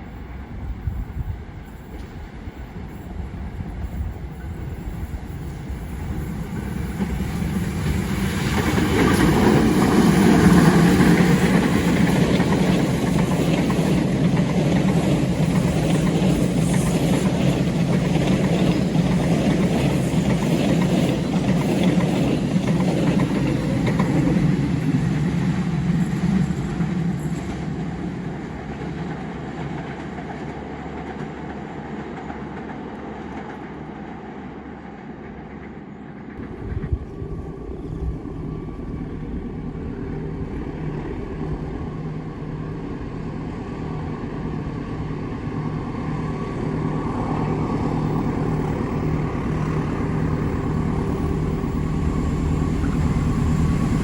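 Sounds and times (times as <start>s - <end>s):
train rolling over rails: 0.0s - 54.0s.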